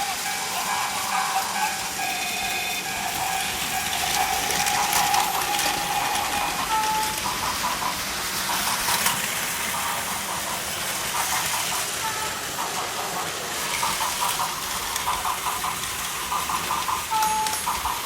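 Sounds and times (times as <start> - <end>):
toy train whirring rattle: 0.0 - 18.0.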